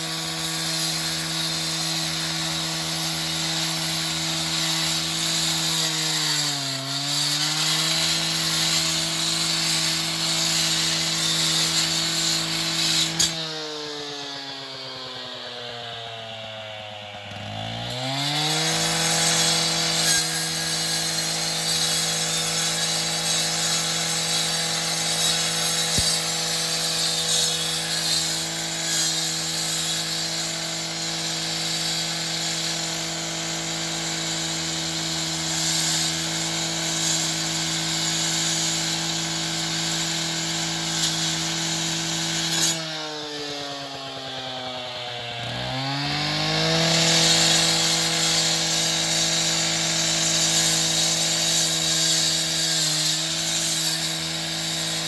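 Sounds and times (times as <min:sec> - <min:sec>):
diamond wheel grinding concrete: 0:00.0 - 0:13.4, 0:17.9 - 0:42.9, 0:45.7 - 0:55.0
cut-off saw engine revving: 0:00.0 - 0:55.0.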